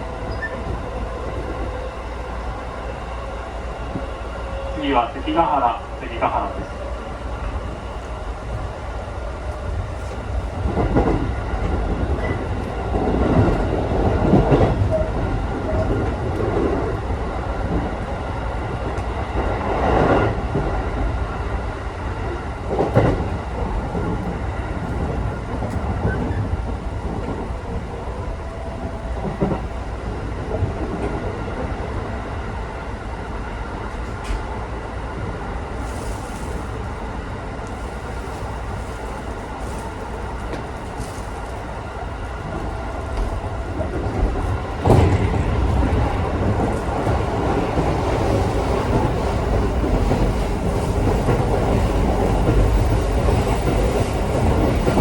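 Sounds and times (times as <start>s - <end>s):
train clunks and rattles: 0.0s - 55.0s
train wheels rumbling on rails: 0.0s - 55.0s.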